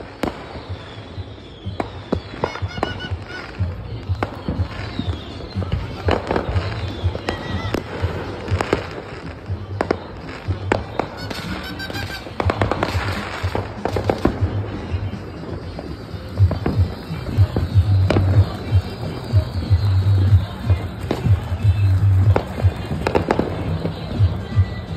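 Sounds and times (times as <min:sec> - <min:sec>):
fireworks bangs and pops: 0:00.0 - 0:24.9.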